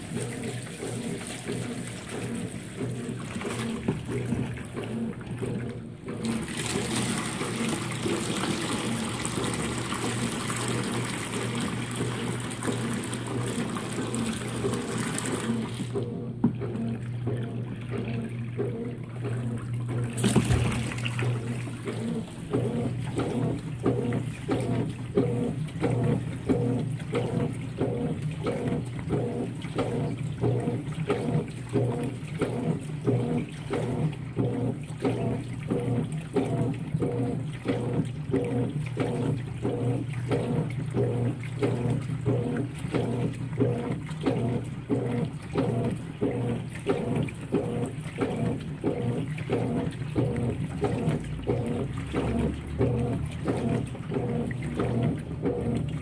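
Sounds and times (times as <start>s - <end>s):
water and fabric swishing: 0.0s - 16.0s, 17.4s - 56.0s
washing machine low hum: 0.0s - 56.0s.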